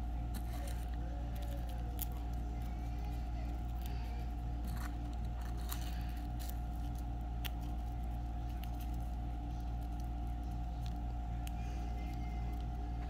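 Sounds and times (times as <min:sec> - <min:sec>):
dried petals crinkling: 0:00.0 - 0:13.0
steady low hum: 0:00.0 - 0:13.0.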